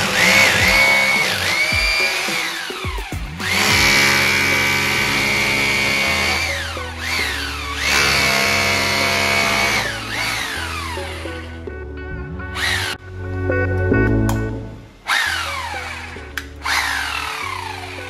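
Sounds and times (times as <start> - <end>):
hammer drill motor whine: 0.0 - 11.6, 12.6 - 13.0, 15.1 - 18.0
background music: 0.0 - 18.0.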